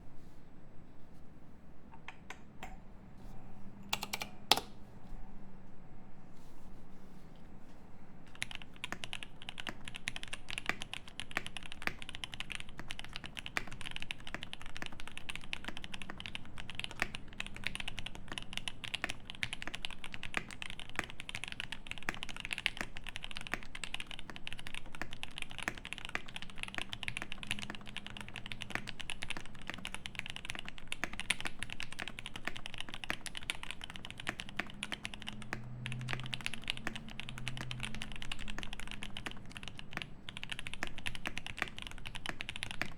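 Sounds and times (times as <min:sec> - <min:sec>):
mechanical keyboard typing: 0:03.9 - 0:04.8, 0:08.3 - 0:42.9.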